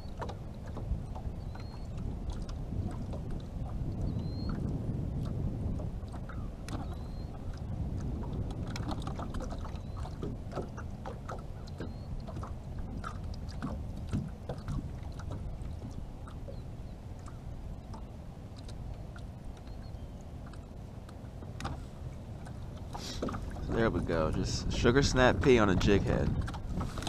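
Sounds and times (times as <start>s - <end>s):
wind and water rumble: 0.0s - 27.0s.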